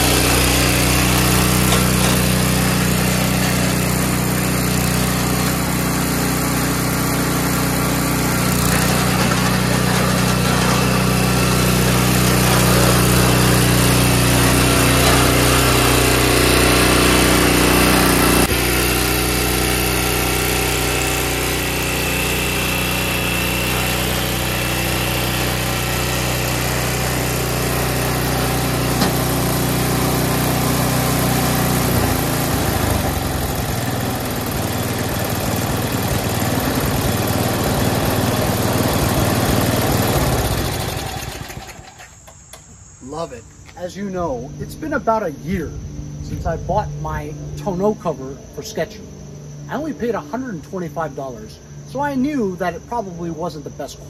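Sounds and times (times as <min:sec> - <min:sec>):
snowblower engine running: 0:00.0 - 0:53.0.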